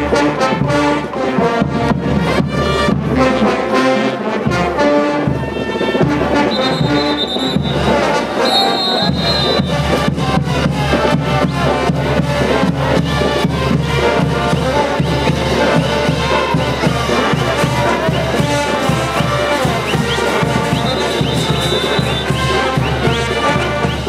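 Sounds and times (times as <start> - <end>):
brass band playing: 0.0 - 24.0
driving drum beat: 4.5 - 24.0.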